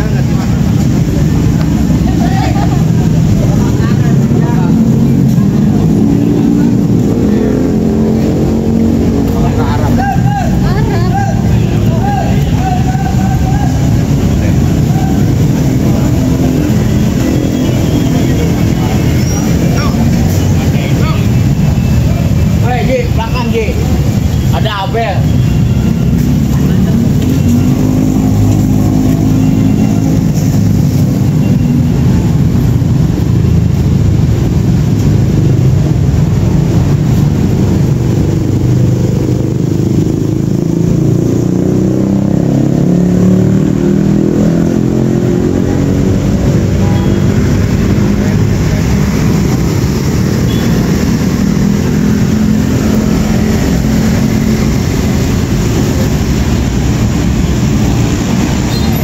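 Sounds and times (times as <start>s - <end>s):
car engines: 0.0s - 59.0s
motorcycle engines: 0.0s - 59.0s.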